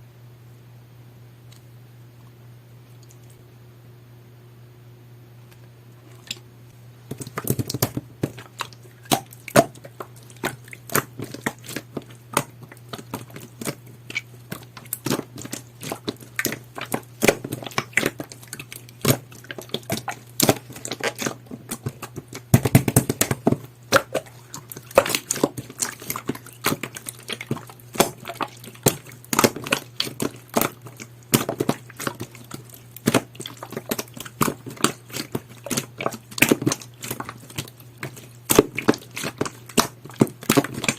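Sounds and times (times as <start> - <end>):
slime clicking and popping: 7.1 - 40.9.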